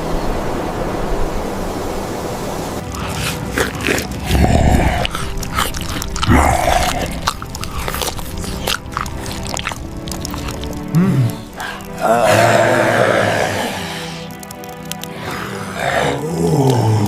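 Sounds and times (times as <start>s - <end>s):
quiet background music: 0.2s - 17.0s
crunching and crackling clicks: 2.8s - 17.0s.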